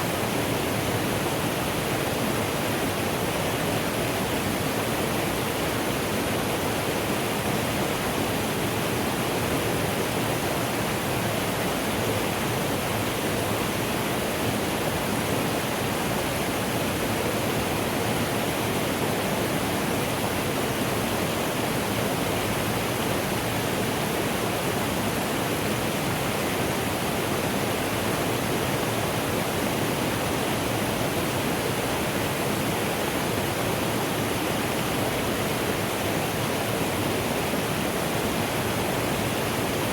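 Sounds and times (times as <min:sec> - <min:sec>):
stream flowing over rocks: 0:00.1 - 0:39.9.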